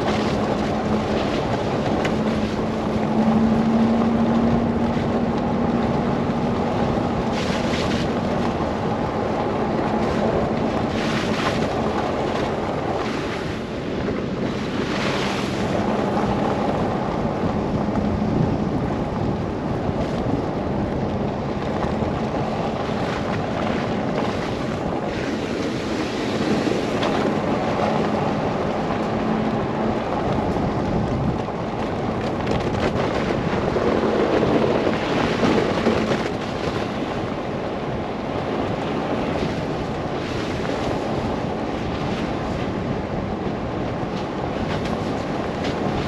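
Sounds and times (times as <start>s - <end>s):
car road noise: 0.0s - 46.0s
wind rushing: 0.0s - 46.0s.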